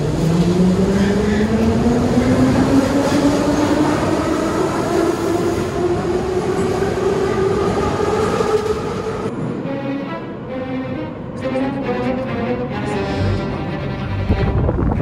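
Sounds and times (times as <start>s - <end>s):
train wheels rumbling: 0.0s - 13.4s.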